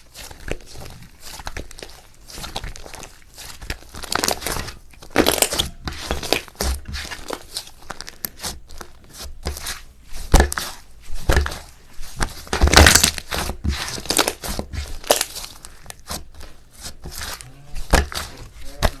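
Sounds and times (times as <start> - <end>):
slime crackling and squelching: 0.0 - 19.0.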